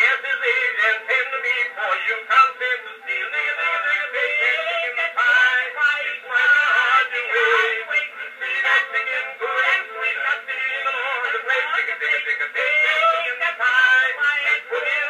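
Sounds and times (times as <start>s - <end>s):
man singing on old phonograph: 0.0s - 15.0s.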